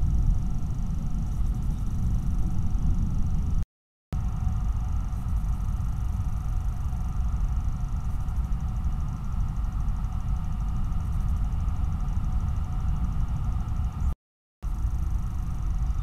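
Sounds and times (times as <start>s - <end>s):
faint electronic whine: 0.0s - 3.6s, 4.2s - 16.0s.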